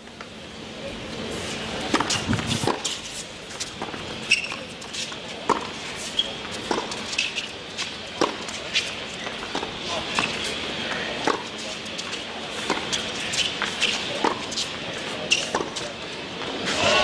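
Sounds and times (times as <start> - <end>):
tennis ball bouncing: 1.9 - 16.5
rackets striking tennis ball: 1.9 - 16.8.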